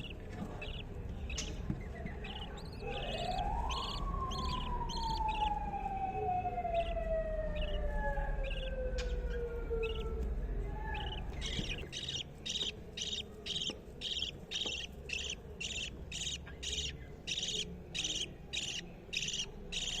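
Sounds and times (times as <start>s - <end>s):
budgerigars chirping: 0.0s - 20.0s.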